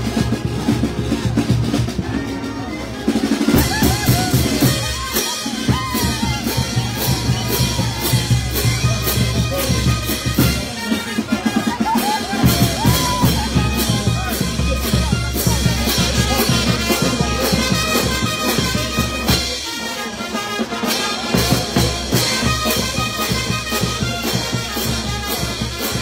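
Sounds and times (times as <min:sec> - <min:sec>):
bass drums snare and cymbals: 0:00.0 - 0:26.0
brass band playing: 0:00.0 - 0:26.0.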